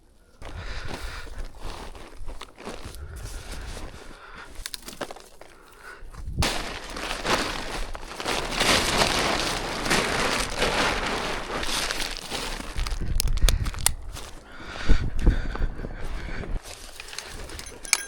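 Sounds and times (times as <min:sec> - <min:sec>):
gear rustling and crackling: 0:00.4 - 0:18.0.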